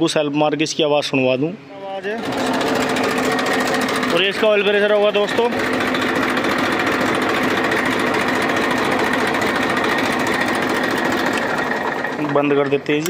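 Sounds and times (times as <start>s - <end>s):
diesel tractor engine idling: 2.3s - 13.0s.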